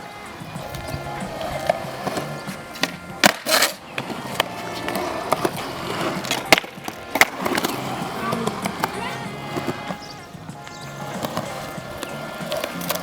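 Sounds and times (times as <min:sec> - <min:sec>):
skateboard clacks and slaps: 0:00.0 - 0:13.0
skateboard wheels on concrete: 0:00.0 - 0:13.0.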